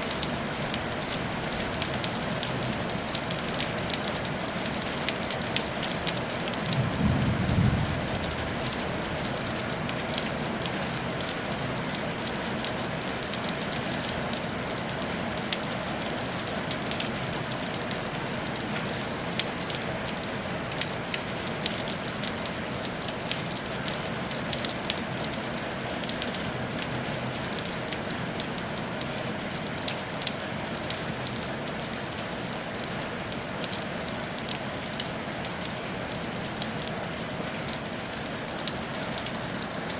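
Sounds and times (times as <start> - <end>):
rain on a tile roof: 0.0 - 39.9.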